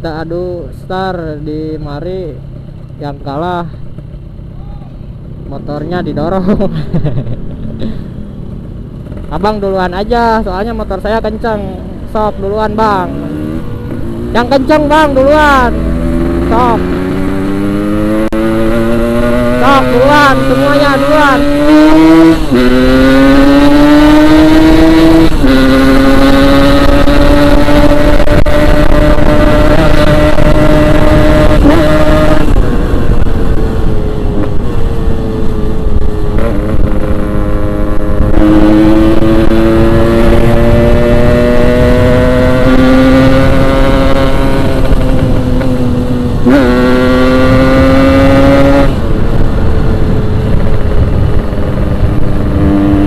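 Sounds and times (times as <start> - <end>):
motorcycle engine accelerating hard: 2.0 - 53.0.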